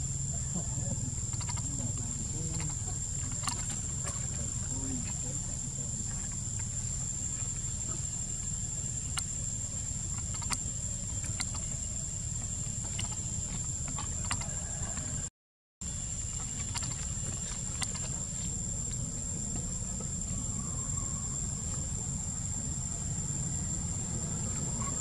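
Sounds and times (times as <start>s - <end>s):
high-pitched insect drone: 0.0s - 15.2s, 15.8s - 25.0s.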